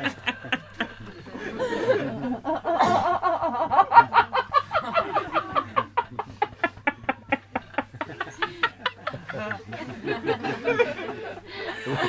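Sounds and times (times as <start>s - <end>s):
rapid cackling laughter: 0.0s - 12.0s.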